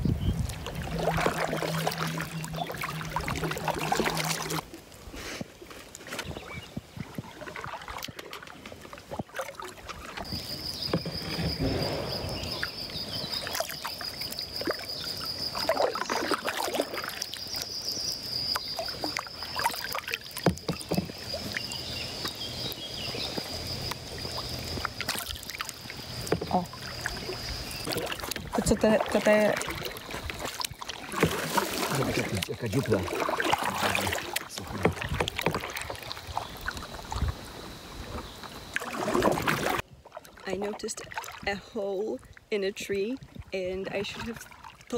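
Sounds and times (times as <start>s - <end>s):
paddle strokes splashing water: 0.0s - 44.9s.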